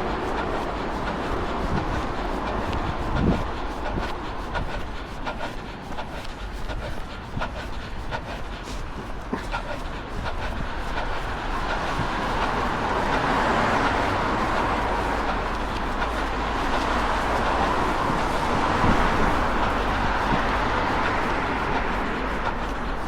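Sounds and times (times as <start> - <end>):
road traffic passing: 0.0 - 23.0
wind rumble on microphone: 0.0 - 23.0.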